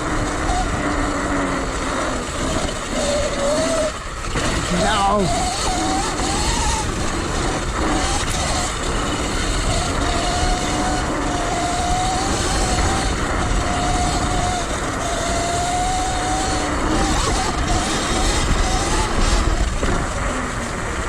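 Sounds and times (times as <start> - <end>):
electric motor whine: 0.0 - 21.0
wind and tyre noise: 0.0 - 21.0.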